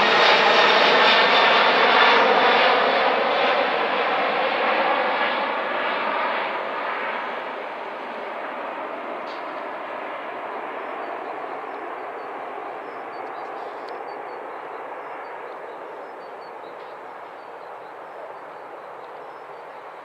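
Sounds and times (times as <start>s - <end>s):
jet engines rushing: 0.0s - 20.0s.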